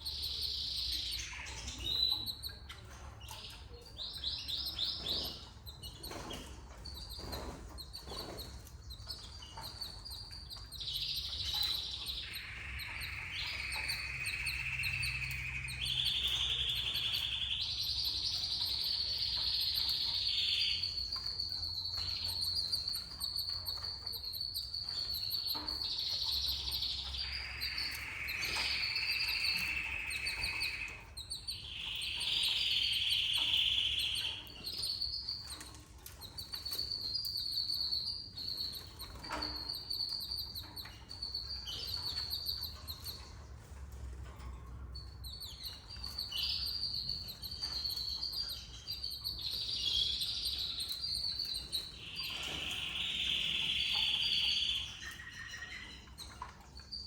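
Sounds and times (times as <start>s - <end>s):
canaries chirping and trilling: 0.0s - 57.0s.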